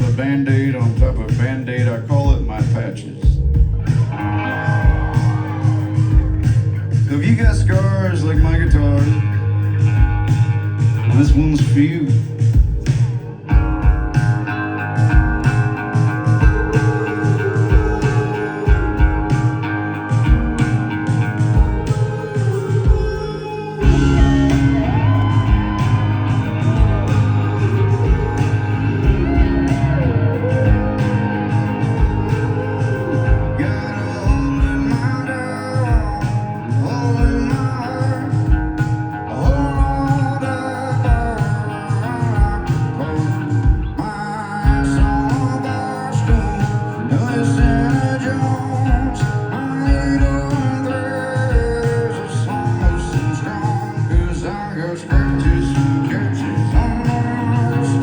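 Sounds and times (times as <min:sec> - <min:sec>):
live rock band playing: 0:00.0 - 0:58.0
steel guitar gliding between notes: 0:03.6 - 0:58.0.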